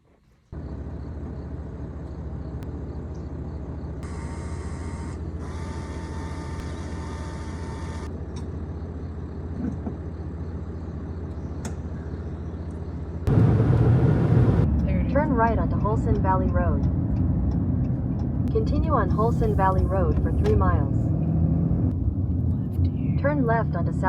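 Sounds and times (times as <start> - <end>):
vehicle engine and road drone: 0.5 - 24.0.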